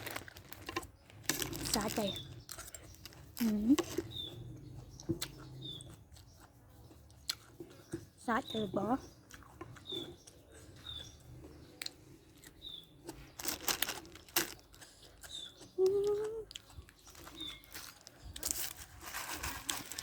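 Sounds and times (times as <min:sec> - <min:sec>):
food chewing and crunching: 0:00.0 - 0:20.0
bird chirping: 0:00.9 - 0:18.8.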